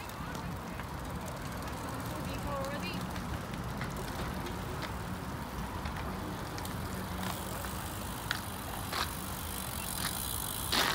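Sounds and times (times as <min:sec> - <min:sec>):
bicycles rolling past: 0:00.0 - 0:10.9
light bike clicks: 0:00.0 - 0:10.9.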